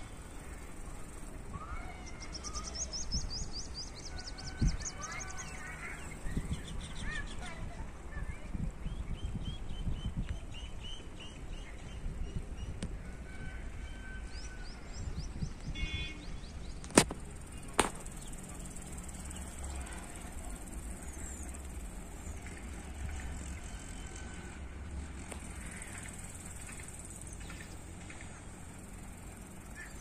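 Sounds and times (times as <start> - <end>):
low rumble of wind: 0.0 - 30.0.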